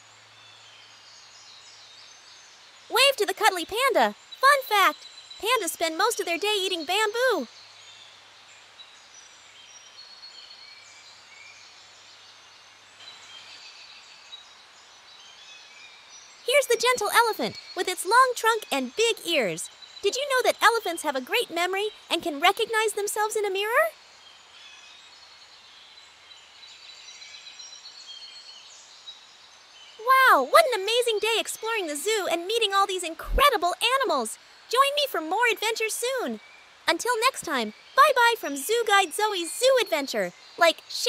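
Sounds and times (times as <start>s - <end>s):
low hiss: 0.0s - 41.0s.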